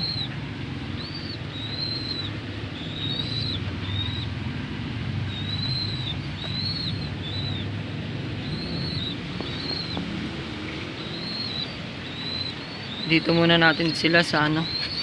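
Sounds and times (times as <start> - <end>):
wind rumble on microphone: 0.0 - 15.0
young pigeons peeping: 0.0 - 15.0.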